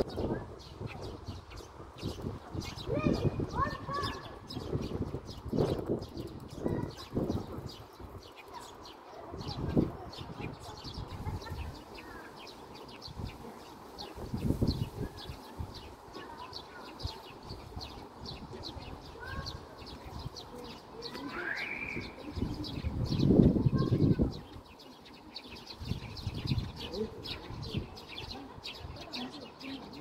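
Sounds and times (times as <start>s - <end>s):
faint children's voices playing: 0.0s - 30.0s
small birds chirping: 0.0s - 30.0s.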